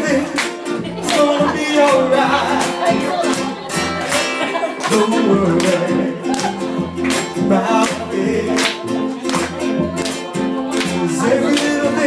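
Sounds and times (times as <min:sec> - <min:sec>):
acoustic guitar reggae strumming: 0:00.0 - 0:12.0.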